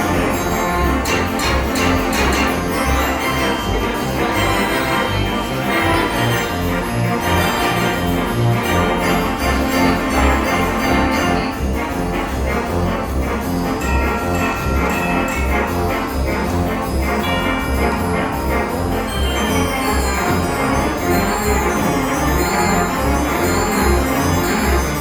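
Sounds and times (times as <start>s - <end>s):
orchestral music with brass: 0.0s - 25.0s.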